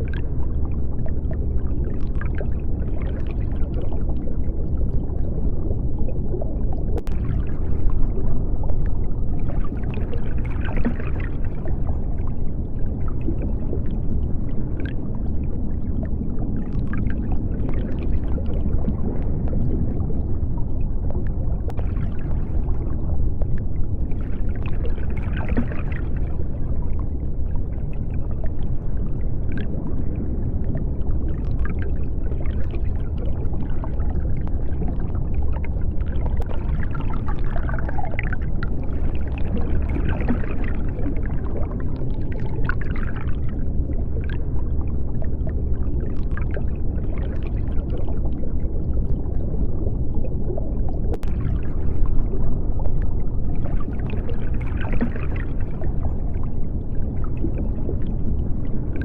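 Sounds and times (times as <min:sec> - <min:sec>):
deep underwater rumble: 0:00.0 - 0:59.0
faint high underwater sounds: 0:00.0 - 0:59.0.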